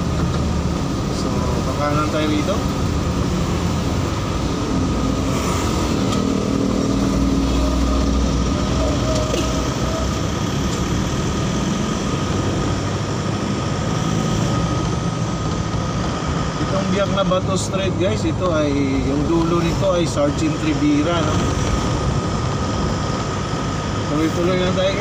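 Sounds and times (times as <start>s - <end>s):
road noise: 0.0s - 25.0s
steady high whine: 0.0s - 25.0s
vehicle engine: 0.0s - 25.0s.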